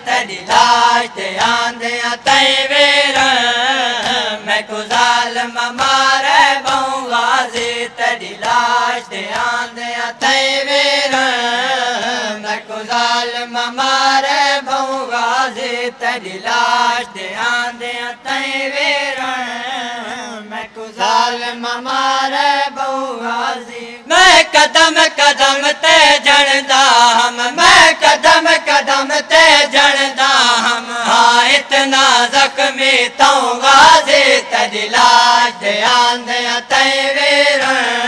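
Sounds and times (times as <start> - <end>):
person chanting a lament: 0.0 - 38.0.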